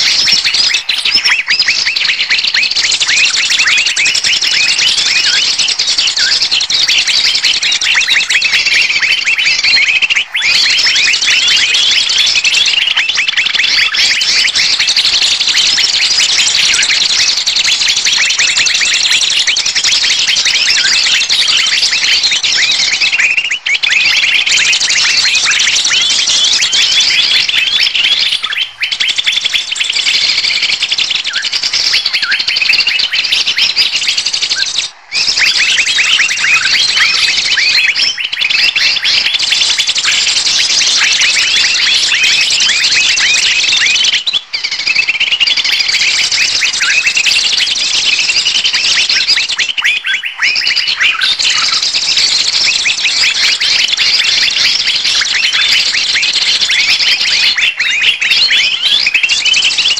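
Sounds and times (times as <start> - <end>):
small birds chirping rapidly: 0.0 - 59.9.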